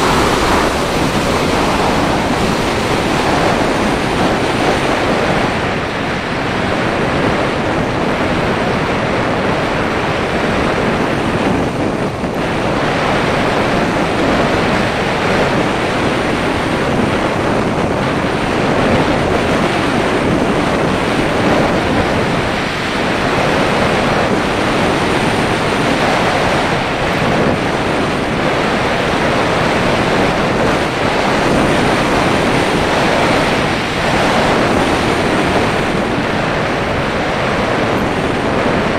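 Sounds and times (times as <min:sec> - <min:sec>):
wind rushing over camera: 0:00.0 - 0:38.9.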